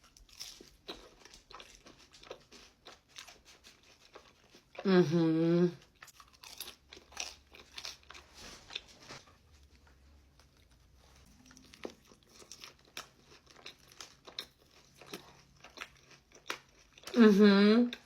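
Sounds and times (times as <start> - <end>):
person chewing crispy food: 0.0 - 4.9, 5.8 - 17.2.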